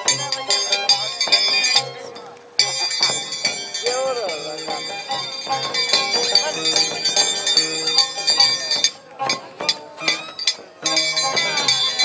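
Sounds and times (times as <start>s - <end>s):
folk music: 0.0s - 12.0s.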